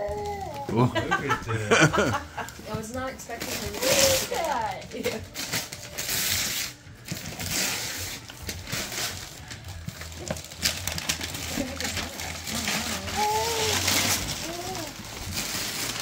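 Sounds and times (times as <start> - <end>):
wrapping paper rustling: 0.0 - 16.0.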